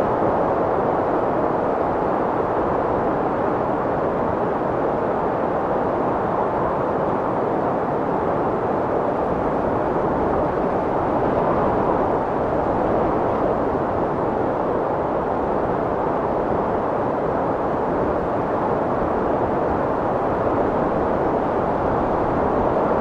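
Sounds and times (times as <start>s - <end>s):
strong wind rushing: 0.0s - 23.0s.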